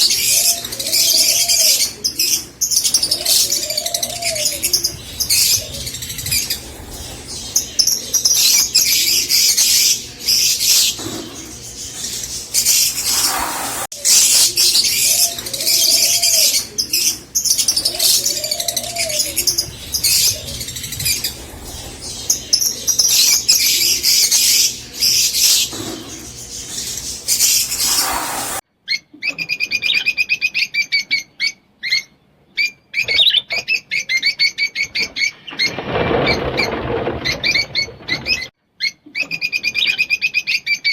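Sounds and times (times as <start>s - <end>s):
lovebirds chattering and chirping: 0.0s - 35.8s.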